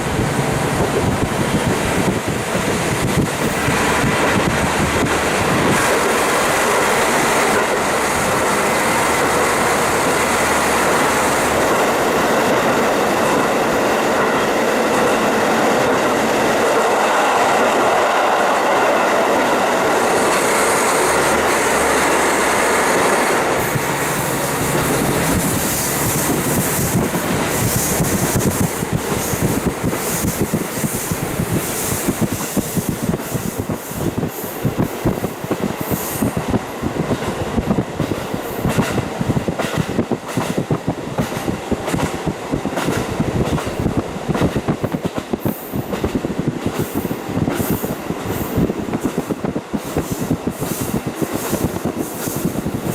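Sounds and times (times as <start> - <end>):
diesel railcar engine: 0.0 - 52.9
rushing air: 0.0 - 52.9
wheels on rails: 0.0 - 52.9.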